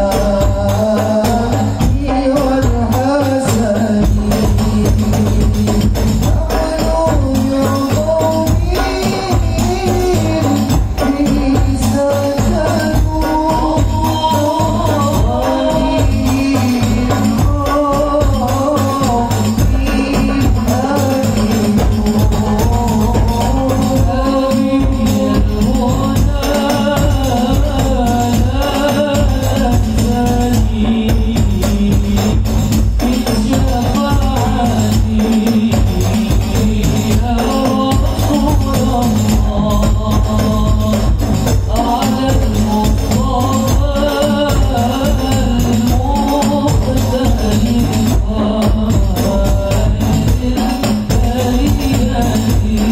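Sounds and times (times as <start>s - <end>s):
frame drums playing steady rhythm: 0.0s - 52.9s
men singing wavering melody: 0.0s - 52.9s.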